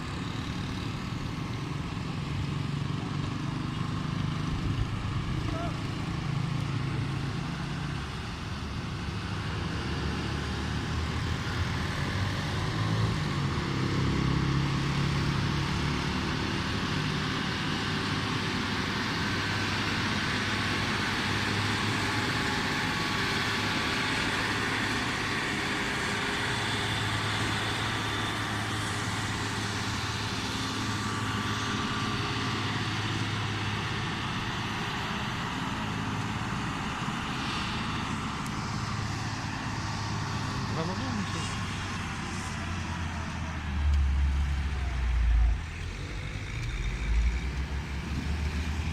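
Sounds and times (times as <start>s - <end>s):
road noise: 0.0s - 48.9s
truck diesel engine running: 0.0s - 48.9s.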